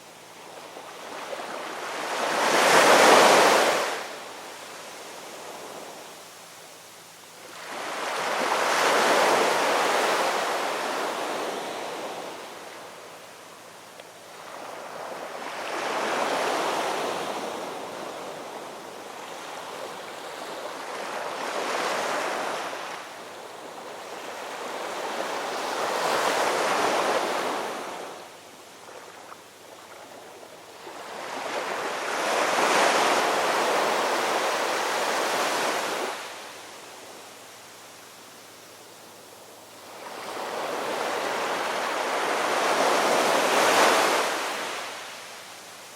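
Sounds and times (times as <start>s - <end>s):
waves breaking on shore: 0.0s - 6.1s, 7.4s - 13.0s, 14.3s - 37.4s, 39.0s - 45.9s.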